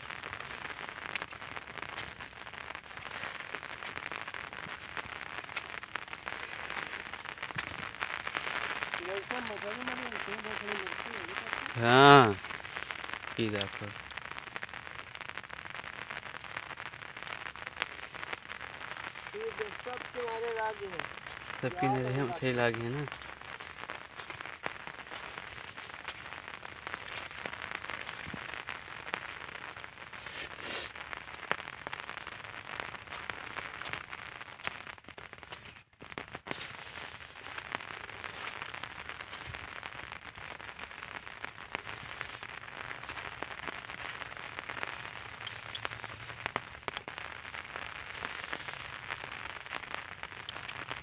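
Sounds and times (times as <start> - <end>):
rain pattering on water: 0.0 - 51.0.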